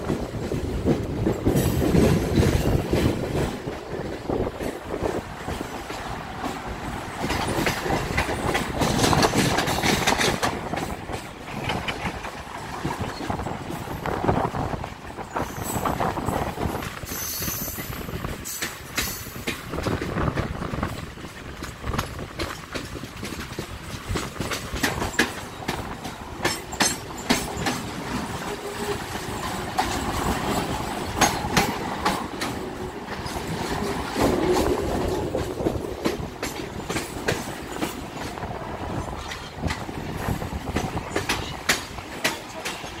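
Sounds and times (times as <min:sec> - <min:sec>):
train rumbling: 0:00.0 - 0:43.0
wheels clicking over rail joints: 0:00.0 - 0:43.0.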